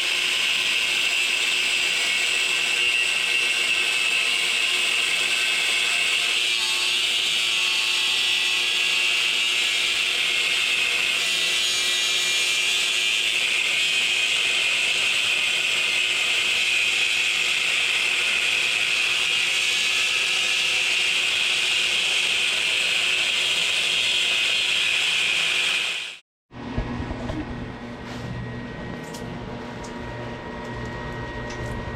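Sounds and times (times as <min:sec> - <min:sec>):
power tool on metal: 0:00.0 - 0:26.2.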